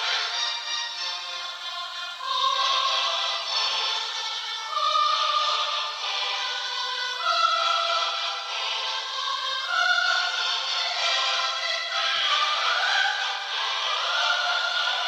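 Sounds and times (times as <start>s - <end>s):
choral singing: 0.0s - 15.0s.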